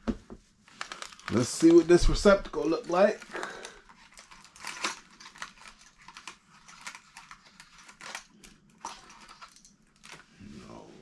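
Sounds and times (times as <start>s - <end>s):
plastic packaging crinkling: 0.6s - 10.3s.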